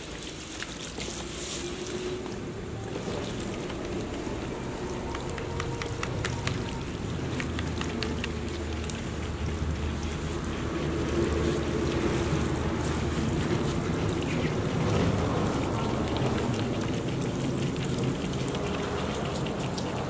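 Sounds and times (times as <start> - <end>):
hose water spraying and splashing: 0.0 - 20.0
steady motor hum: 1.2 - 20.0
sharp spatters and ticks: 3.2 - 20.0.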